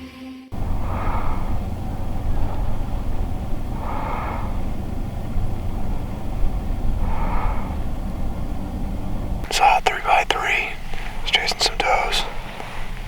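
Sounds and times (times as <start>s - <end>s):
low rumble: 0.5s - 13.0s
soft breath: 0.5s - 13.0s.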